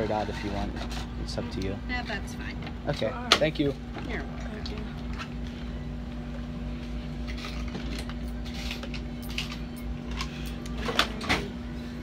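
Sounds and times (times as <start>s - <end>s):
low store hum: 0.0s - 12.0s.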